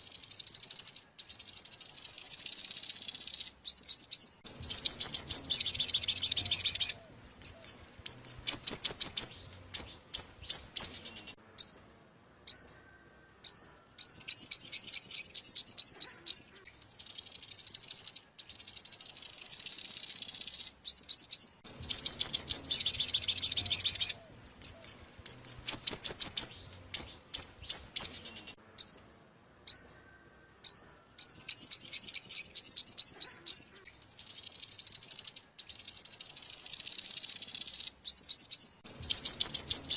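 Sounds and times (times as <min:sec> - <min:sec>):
buzzing bird trill: 0:00.0 - 0:11.9, 0:12.5 - 0:39.9
sunbird trilling: 0:00.0 - 0:39.9.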